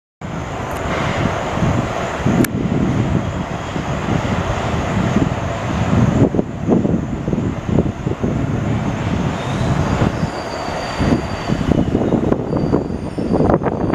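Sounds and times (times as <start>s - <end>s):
train rumbling over rails: 0.2s - 13.9s.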